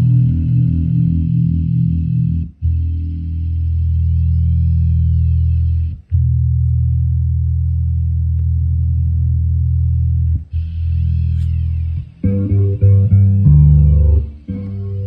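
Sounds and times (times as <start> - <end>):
electric bass low notes: 0.0 - 15.0.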